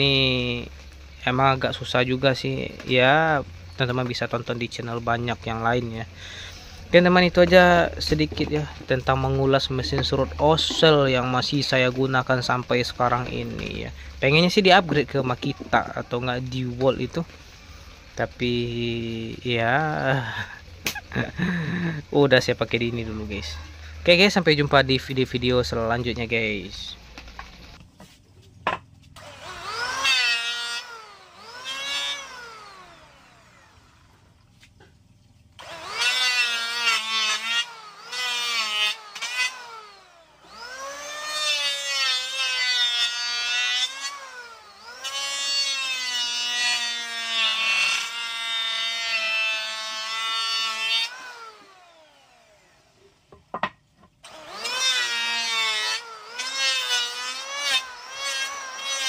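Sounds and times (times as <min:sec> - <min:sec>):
electric hand planer motor whine: 0:00.0 - 0:28.2, 0:29.1 - 0:34.7, 0:35.5 - 0:59.0
planer shaving wood: 0:00.0 - 0:34.9, 0:35.5 - 0:59.0.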